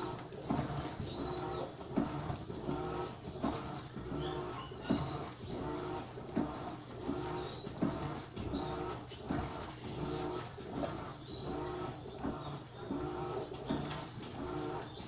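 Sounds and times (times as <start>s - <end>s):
washing machine agitator groaning: 0.0s - 15.0s.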